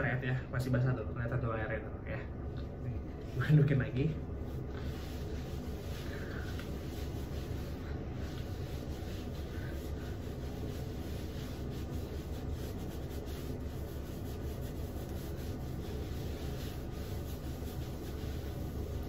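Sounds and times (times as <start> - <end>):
towel rubbing wet hair: 3.1 - 19.0.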